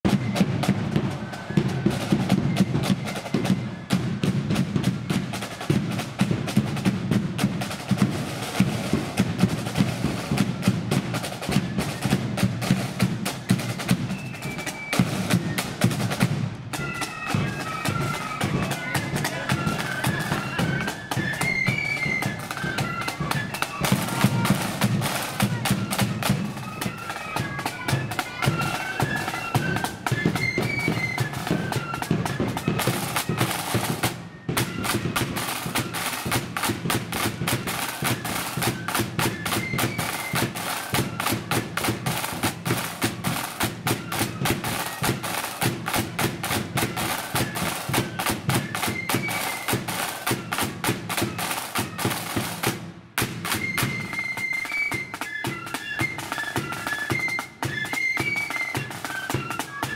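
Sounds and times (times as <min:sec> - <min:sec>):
flutes playing a tune: 0:00.0 - 0:59.9
snare drums: 0:00.0 - 0:59.9.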